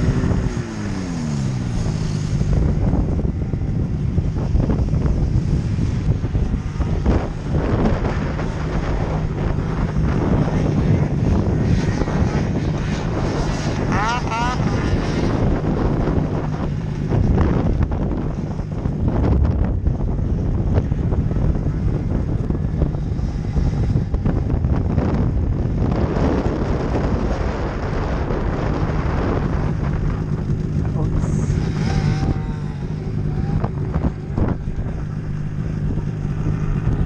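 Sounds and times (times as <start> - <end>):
sled engine whining up and down: 0.0 - 37.0
snowmobile engines running: 0.0 - 37.0
wind buffeting microphone: 0.0 - 37.0.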